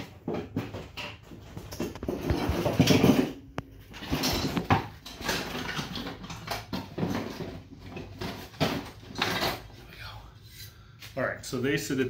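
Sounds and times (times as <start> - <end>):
rustling and handling noise: 0.0 - 10.0.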